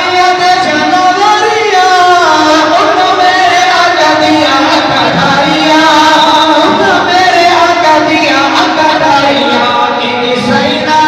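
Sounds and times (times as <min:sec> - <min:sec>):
voices singing devotional chant: 0:00.0 - 0:11.0.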